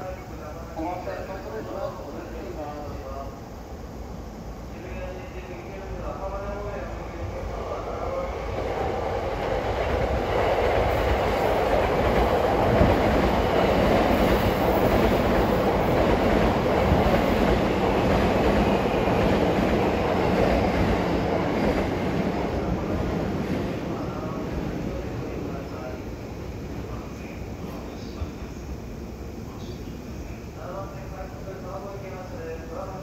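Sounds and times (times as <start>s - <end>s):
electric train wheels on rails: 0.0s - 33.0s.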